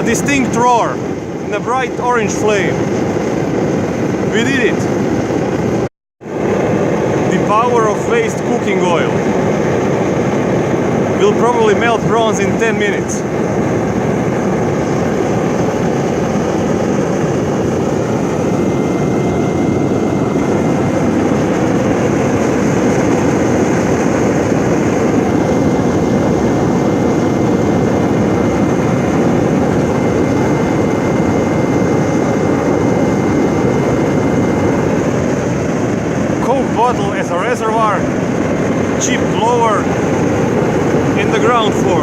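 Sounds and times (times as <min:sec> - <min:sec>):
oil burner roaring: 0:00.0 - 0:42.0.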